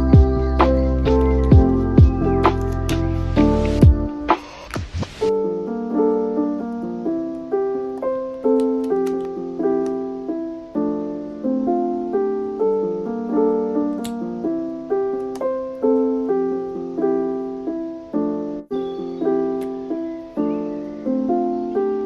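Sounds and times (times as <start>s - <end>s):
gentle piano melody: 0.0s - 4.4s, 5.3s - 22.0s.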